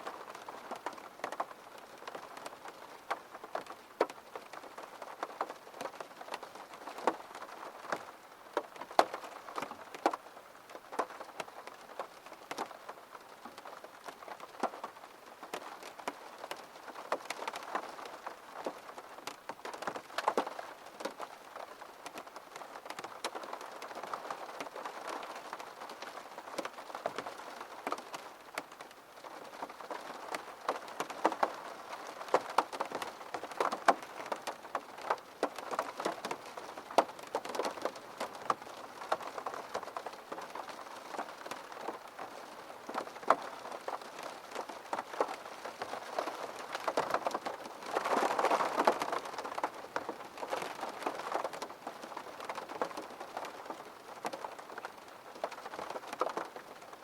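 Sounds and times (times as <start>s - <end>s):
rain on window glass: 0.0s - 57.0s.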